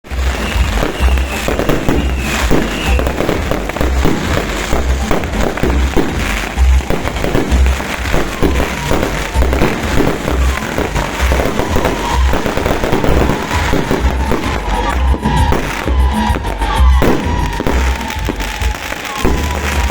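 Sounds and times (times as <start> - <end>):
fireworks crackling: 0.0 - 19.9
music with low beat: 0.1 - 19.9.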